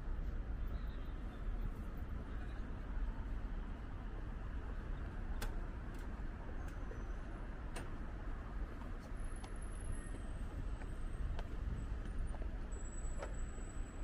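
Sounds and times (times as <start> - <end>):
traffic rumble: 0.0 - 14.0
wind: 0.0 - 14.0.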